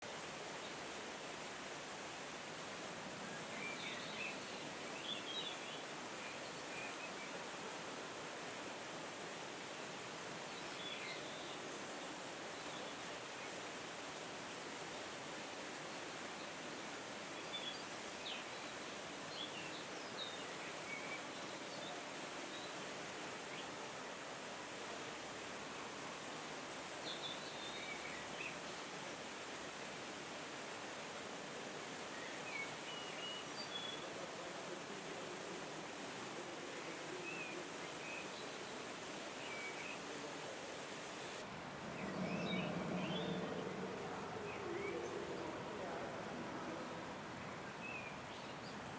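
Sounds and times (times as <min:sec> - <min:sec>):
outdoor background hiss: 0:00.0 - 0:48.9.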